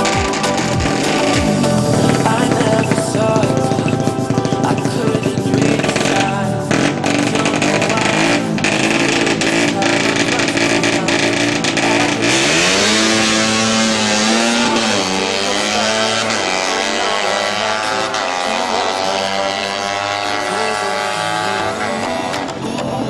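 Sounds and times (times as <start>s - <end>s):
motorcycle engine revving: 0.0s - 22.9s
background music: 0.0s - 23.0s.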